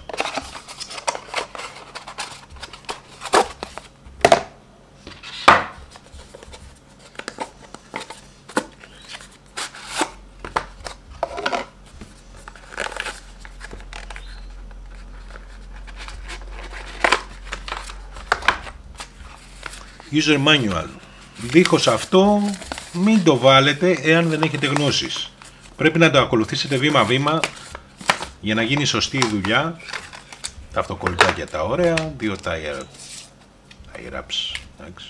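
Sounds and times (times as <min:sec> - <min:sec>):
paper rustling: 0:00.0 - 0:03.9, 0:05.0 - 0:34.0.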